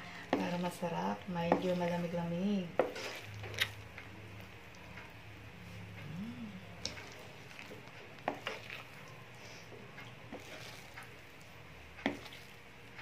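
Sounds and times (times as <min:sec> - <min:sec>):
thick paste stirred in a pan: 0:00.0 - 0:04.8, 0:06.8 - 0:13.0
low steady hum: 0:00.0 - 0:13.0.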